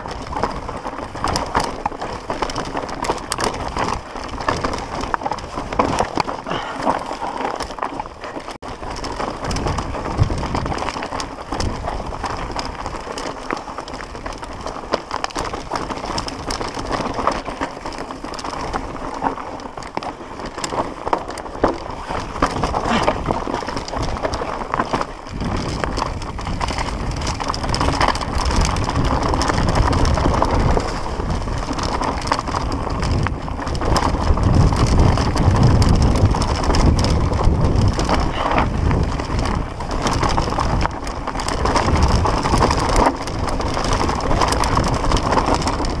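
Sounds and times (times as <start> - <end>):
bike rattling: 0.0 - 46.0
tyres crunching over loose rock: 0.0 - 46.0
wind rumble on microphone: 0.0 - 46.0.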